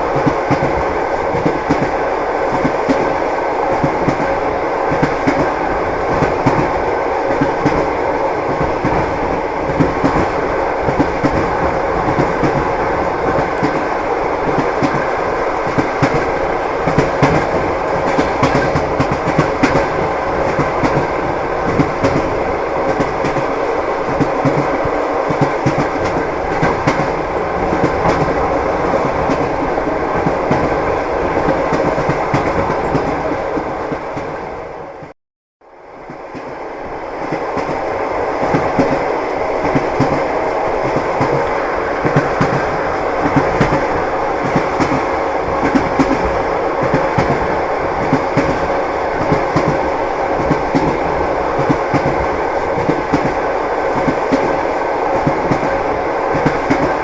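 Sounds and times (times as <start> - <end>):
train wheels clacking over rails: 0.0 - 34.5, 37.2 - 57.0.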